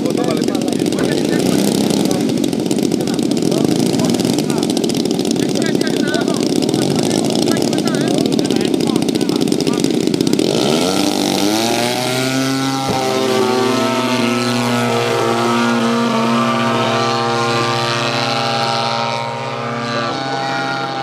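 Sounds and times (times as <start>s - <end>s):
model plane engines revving: 0.0s - 21.0s.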